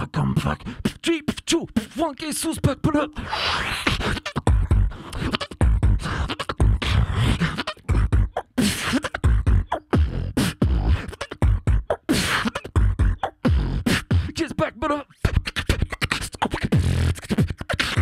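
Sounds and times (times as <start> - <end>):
person beatboxing: 0.0 - 18.0.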